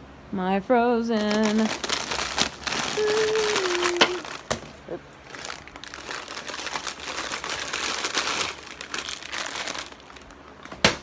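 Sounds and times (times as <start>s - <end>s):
plastic packaging crinkling: 1.2s - 11.0s.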